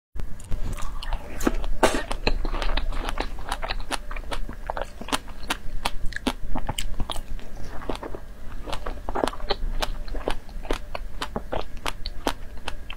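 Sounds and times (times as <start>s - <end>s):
chewing strawberries: 0.4s - 12.9s.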